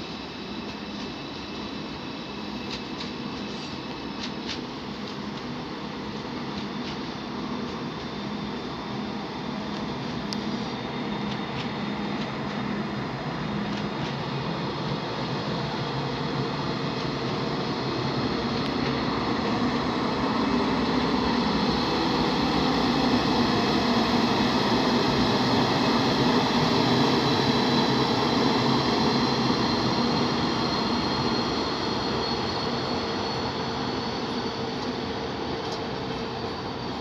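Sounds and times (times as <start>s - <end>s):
high whine: 0.0s - 37.0s
train running on tracks: 0.0s - 37.0s.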